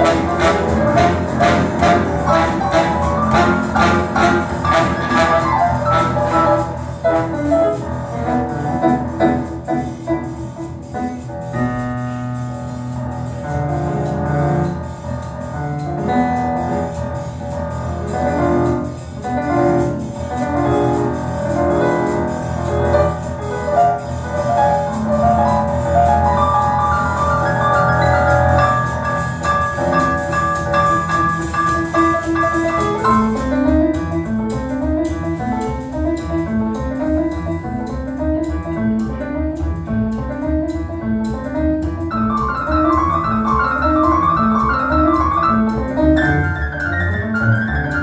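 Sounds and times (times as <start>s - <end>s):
piano: 0.0s - 48.0s
swing band music: 0.0s - 48.0s
upright double bass: 0.0s - 48.0s.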